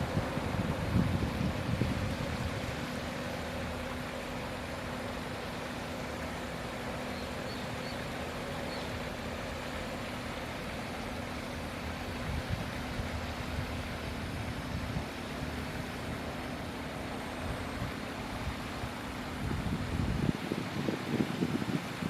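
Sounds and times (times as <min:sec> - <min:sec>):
outdoor hiss and rumble: 0:00.0 - 0:22.0.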